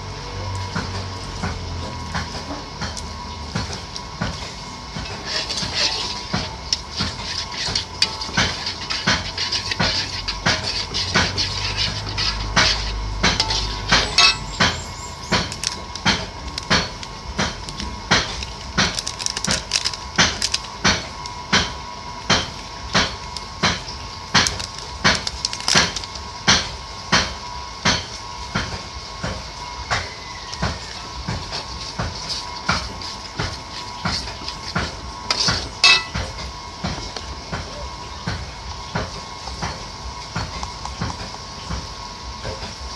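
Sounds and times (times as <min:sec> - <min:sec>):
knocks of food preparation: 0:00.6 - 0:42.8.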